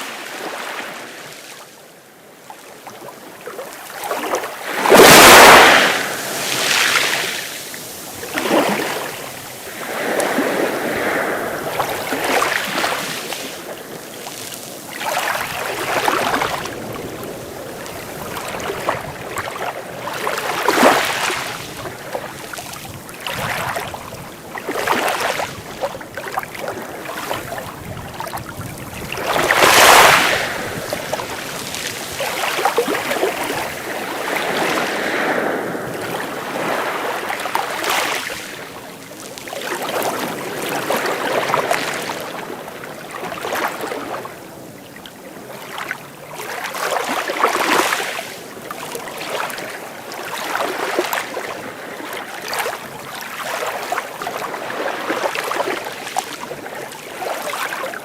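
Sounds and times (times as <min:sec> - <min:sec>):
sea waves breaking: 0:02.7 - 0:58.0.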